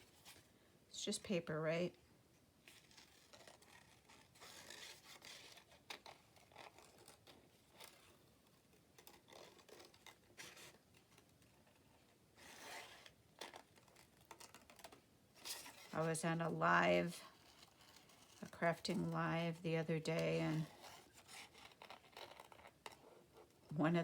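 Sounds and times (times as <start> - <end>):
scissors cutting paper: 2.7 - 8.2, 8.9 - 11.3, 12.4 - 24.0.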